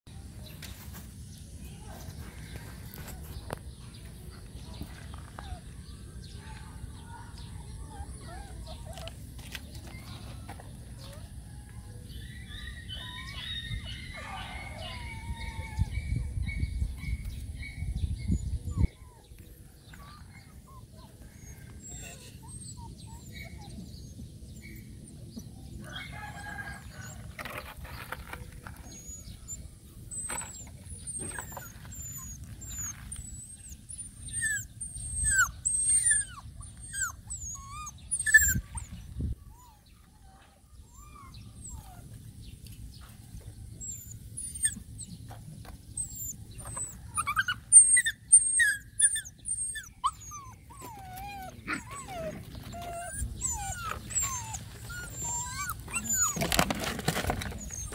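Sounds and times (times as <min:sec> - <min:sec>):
puppies whimpering and yelping: 0:07.6 - 0:42.6, 0:43.6 - 0:57.9.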